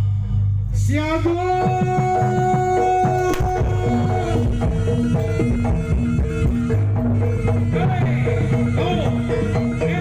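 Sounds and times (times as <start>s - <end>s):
gamelan-style struck percussion: 1.3s - 10.0s
dance music with drums: 1.5s - 10.0s.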